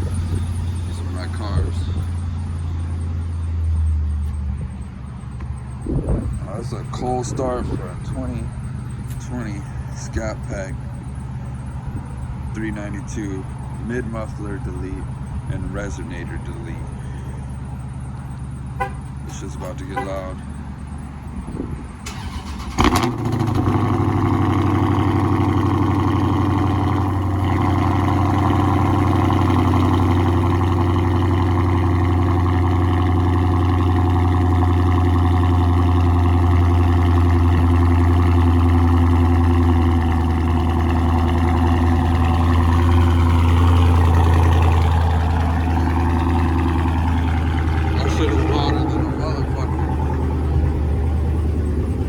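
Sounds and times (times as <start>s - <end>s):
car engine idling: 0.0s - 52.0s
engine cranking: 0.0s - 52.0s.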